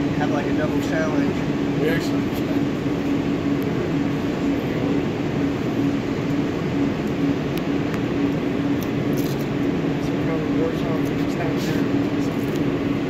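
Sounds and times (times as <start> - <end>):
machinery hum and rushing: 0.0 - 13.0.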